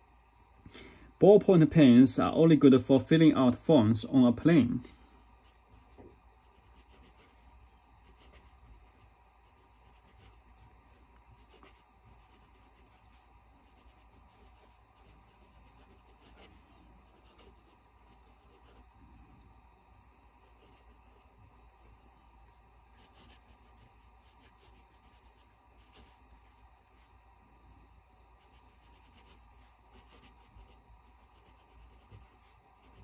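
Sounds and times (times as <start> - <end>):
pen nib scratching on paper: 5.3 - 33.0.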